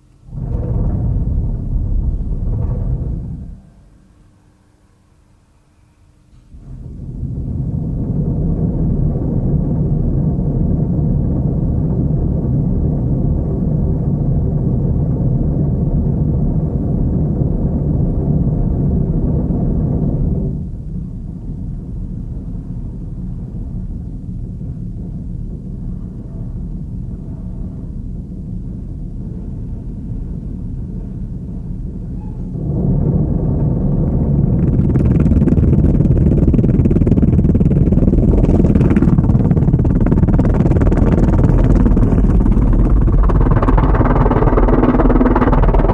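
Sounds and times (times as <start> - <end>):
muffled car wash rumble: 0.0 - 4.7, 6.3 - 45.9.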